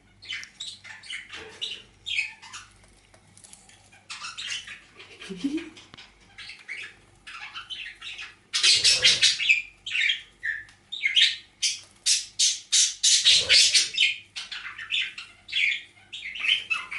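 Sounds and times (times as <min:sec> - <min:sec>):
birds chattering and squawking: 0:00.0 - 0:16.9.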